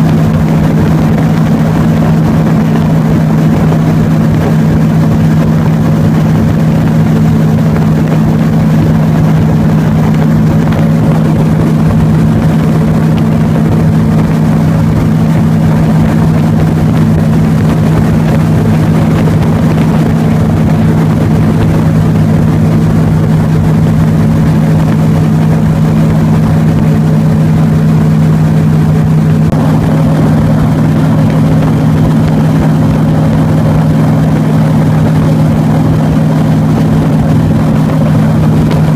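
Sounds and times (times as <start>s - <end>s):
airboat engine and propeller drone: 0.0s - 38.9s.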